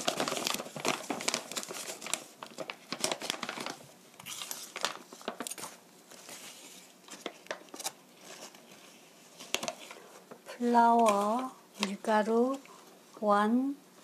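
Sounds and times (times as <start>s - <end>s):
paper and plastic bag crinkling: 0.0s - 12.6s.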